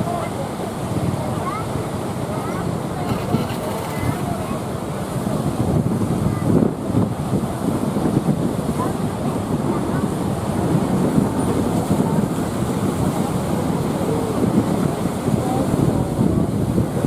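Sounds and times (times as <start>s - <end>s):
heavy surf rushing: 0.0s - 17.0s
wind buffeting microphone: 0.0s - 17.0s.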